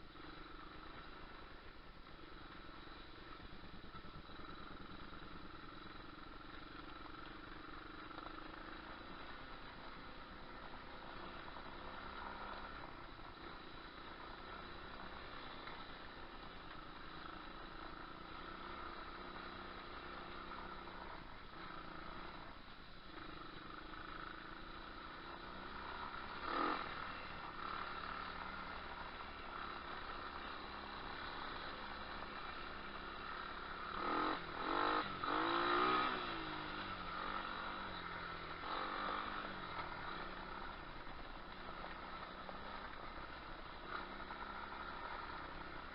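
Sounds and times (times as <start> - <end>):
pit bike engine revving: 3.7 - 45.9.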